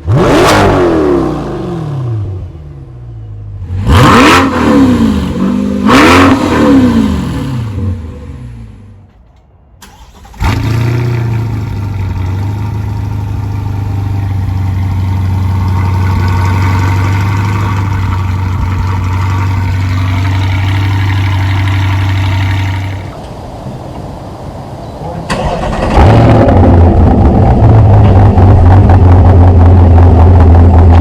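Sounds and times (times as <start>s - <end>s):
car engine starting and idling: 0.0s - 31.0s.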